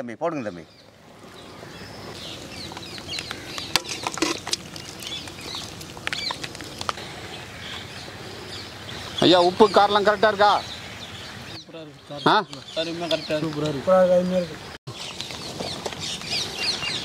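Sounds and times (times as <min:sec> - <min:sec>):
birds chirping and clucking: 0:00.7 - 0:17.0.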